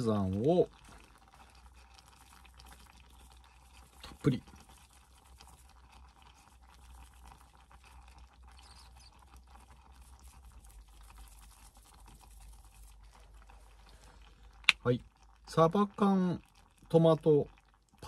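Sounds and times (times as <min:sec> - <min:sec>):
sauce crackling in pan: 0:00.0 - 0:18.0.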